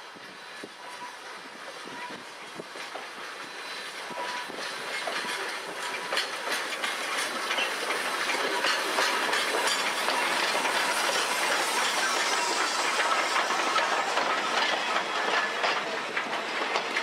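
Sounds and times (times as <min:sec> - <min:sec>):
steam hissing: 0:00.0 - 0:17.0
steam train passing: 0:00.0 - 0:17.0
wheels clicking over rails: 0:02.5 - 0:17.0.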